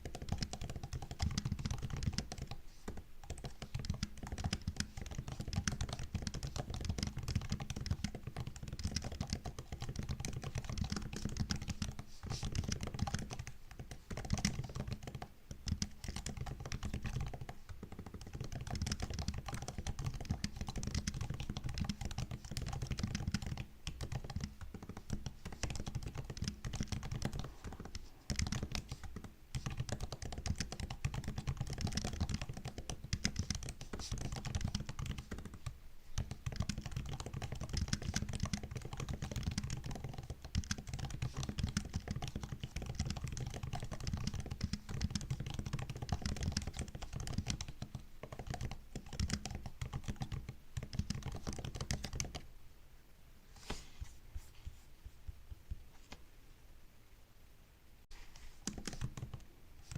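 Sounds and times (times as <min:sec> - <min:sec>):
typing on laptop keyboard: 0:00.0 - 0:52.5, 0:58.4 - 0:59.9.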